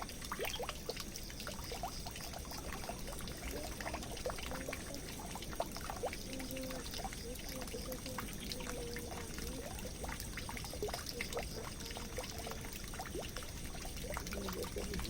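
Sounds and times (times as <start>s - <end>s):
water drips and splashes: 0.0s - 15.0s
water pouring into drain: 0.0s - 15.0s.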